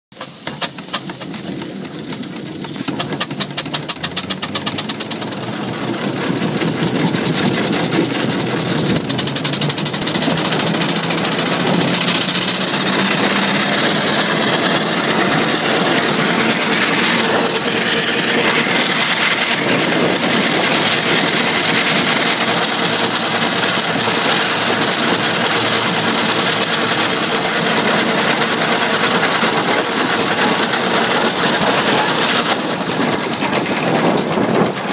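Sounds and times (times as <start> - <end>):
steam engine exhaust beat: 0.1 - 34.9
steam hissing: 0.1 - 34.9.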